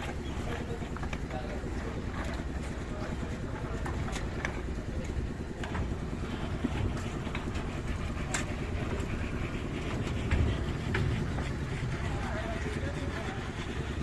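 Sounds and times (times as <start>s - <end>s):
machinery engine rumbling: 0.0s - 14.0s.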